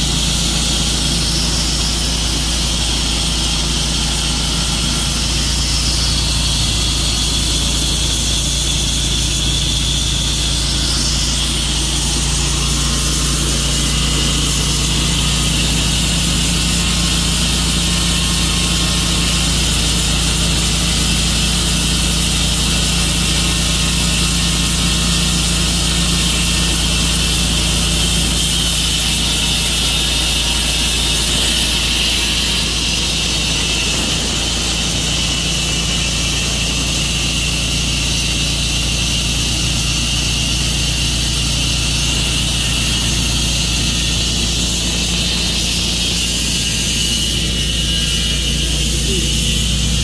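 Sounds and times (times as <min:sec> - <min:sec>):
high whine: 0:00.0 - 0:50.0
sawmill engine running: 0:00.0 - 0:50.0.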